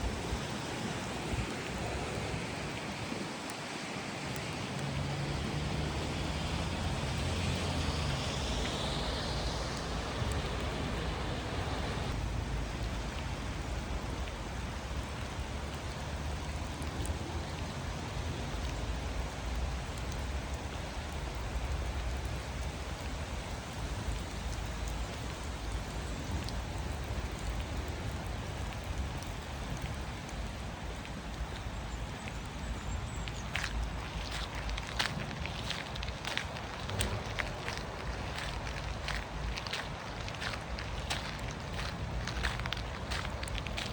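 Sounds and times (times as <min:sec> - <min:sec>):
rain pattering: 0:00.0 - 0:43.9
vehicle hum and hiss: 0:03.7 - 0:43.9.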